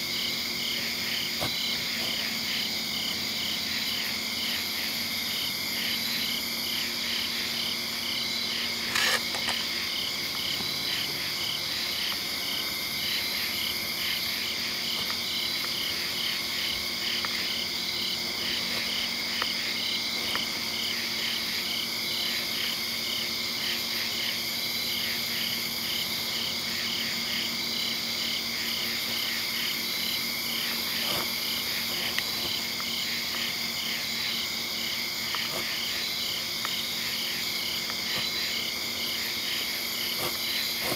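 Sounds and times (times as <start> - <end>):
insects and frogs trilling: 0.0 - 40.9.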